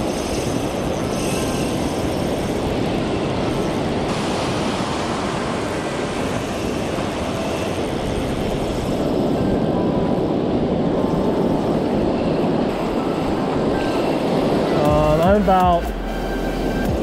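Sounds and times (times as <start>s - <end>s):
ocean surf rushing: 0.0s - 17.0s.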